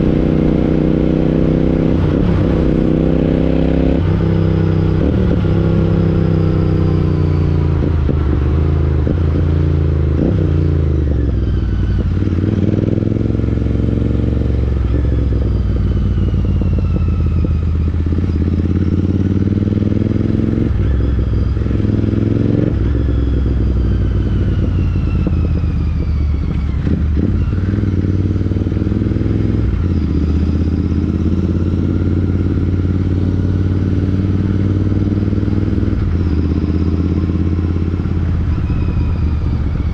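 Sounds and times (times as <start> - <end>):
motorcycle exhaust accelerating: 0.0 - 39.9.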